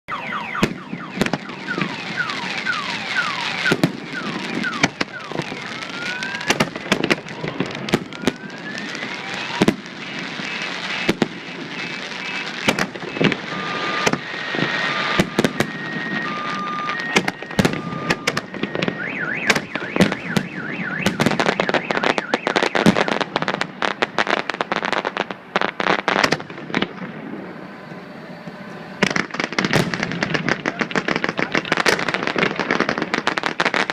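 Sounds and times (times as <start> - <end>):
fireworks bangs and crackling: 0.2 - 33.9
whistling firework shells: 0.2 - 33.9.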